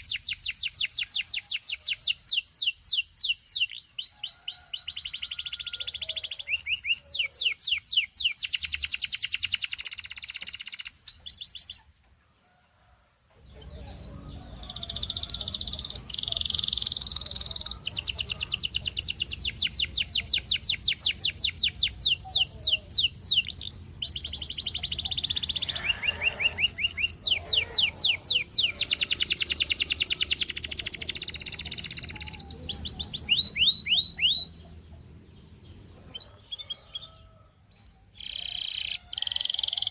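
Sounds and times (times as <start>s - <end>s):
canary singing trills: 0.0s - 11.9s, 13.4s - 39.9s.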